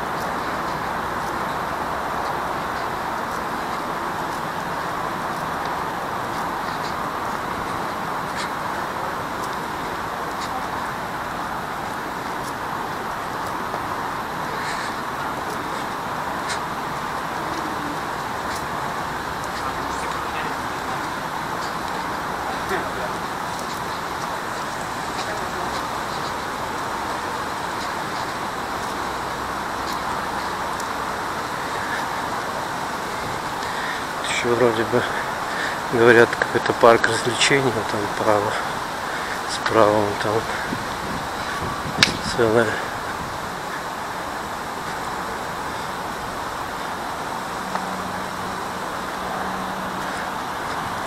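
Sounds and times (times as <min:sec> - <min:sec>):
road traffic rush: 0:00.0 - 0:51.0.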